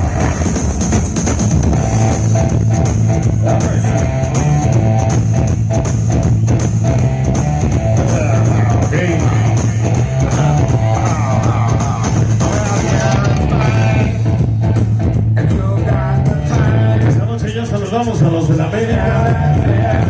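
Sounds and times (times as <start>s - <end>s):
loud dance music with bass: 0.0s - 20.0s.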